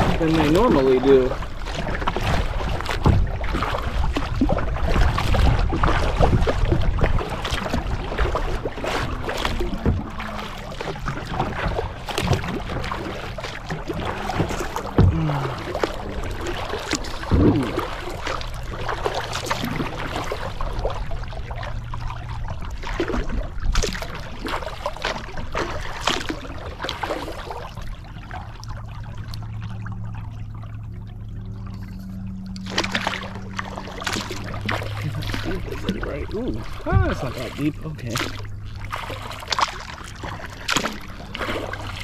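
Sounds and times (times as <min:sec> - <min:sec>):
low steady hum: 0:00.0 - 0:42.0
paddle splashing in water: 0:00.0 - 0:42.0.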